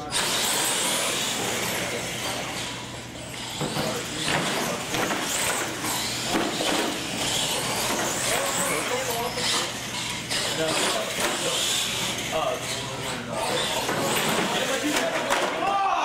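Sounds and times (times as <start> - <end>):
toy truck motors whining: 0.0 - 15.8.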